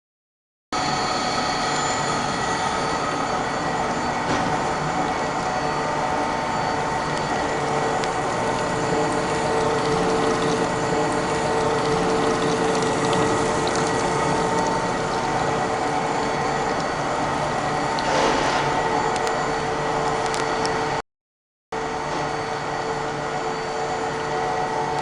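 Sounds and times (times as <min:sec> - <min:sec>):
machine humming: 0:00.8 - 0:21.0.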